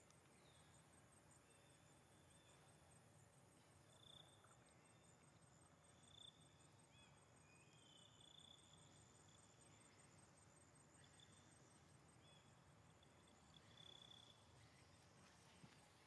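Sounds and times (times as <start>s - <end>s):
insect trill: 0.2s - 16.0s.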